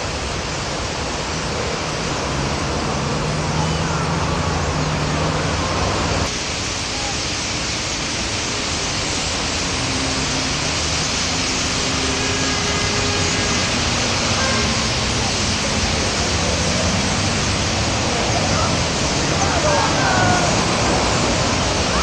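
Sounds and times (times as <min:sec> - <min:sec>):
starlings chattering: 0:01.2 - 0:22.0.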